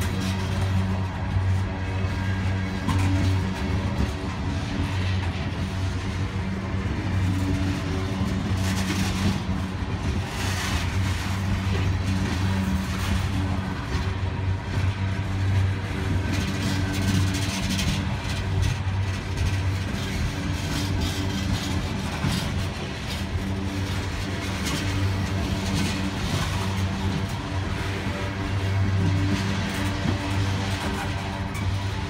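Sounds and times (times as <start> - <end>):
constant noise haze: 0.0 - 32.0
diesel locomotives droning: 0.0 - 32.0.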